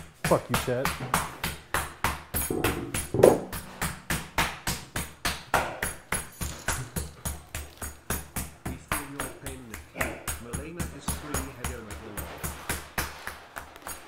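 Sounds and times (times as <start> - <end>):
meat mallet pounding chicken: 0.0 - 14.0.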